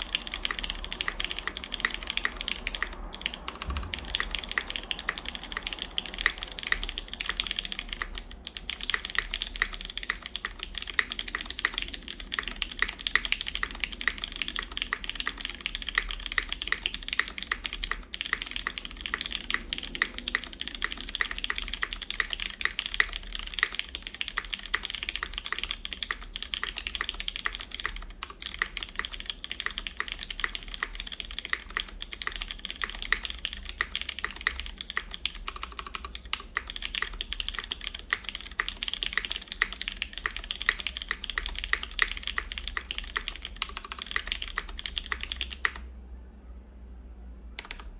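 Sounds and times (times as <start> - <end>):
fast typing on mechanical keyboard: 0.0 - 45.9, 47.6 - 47.9.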